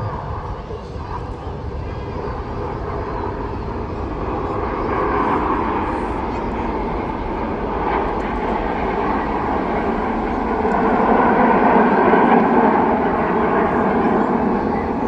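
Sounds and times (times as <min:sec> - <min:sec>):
aircraft flying past: 0:00.0 - 0:15.0.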